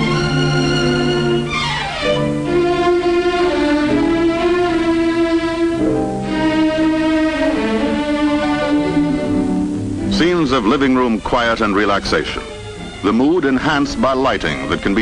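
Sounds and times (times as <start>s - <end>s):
orchestral strings music: 0.0s - 15.0s.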